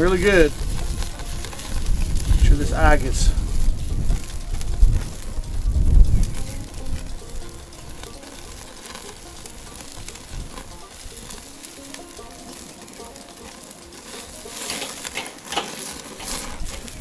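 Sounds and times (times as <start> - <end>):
fat crackling on coals: 0.0 - 17.0
steak sizzling on grill: 0.0 - 17.0.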